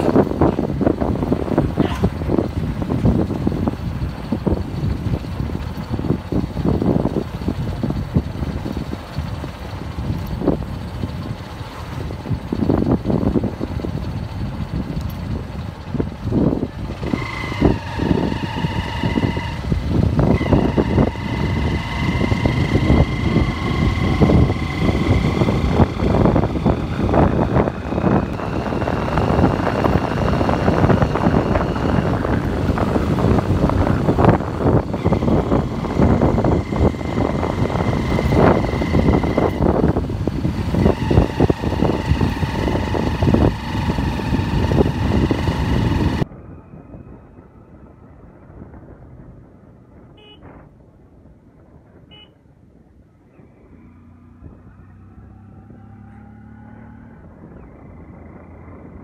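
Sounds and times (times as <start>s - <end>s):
engine hum: 0.0s - 59.0s
road noise: 0.0s - 59.0s
wind buffeting microphone: 0.0s - 59.0s.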